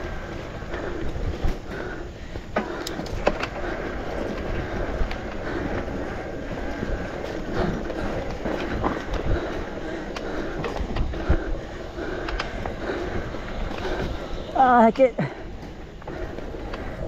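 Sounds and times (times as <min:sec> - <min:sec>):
bike tyres rolling and rattling: 0:00.0 - 0:17.0
thin steady whine: 0:00.0 - 0:17.0.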